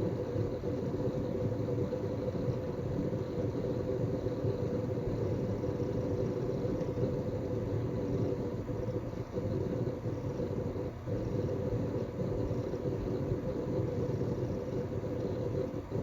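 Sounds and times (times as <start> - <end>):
fan whir with faint tone: 0.0 - 16.0
hard drive gurgling: 0.0 - 16.0.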